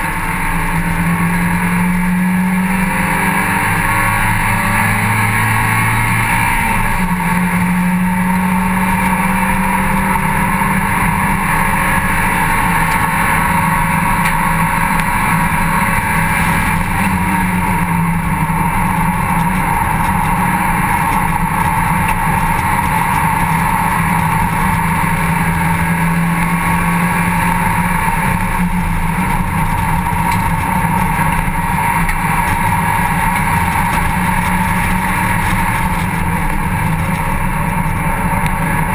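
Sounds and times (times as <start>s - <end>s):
race car engine at high revs: 0.0s - 38.9s
rushing wind noise: 0.0s - 38.9s.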